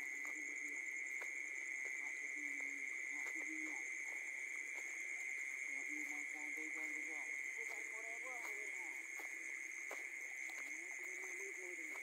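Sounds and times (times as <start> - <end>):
frogs droning: 0.0 - 12.0.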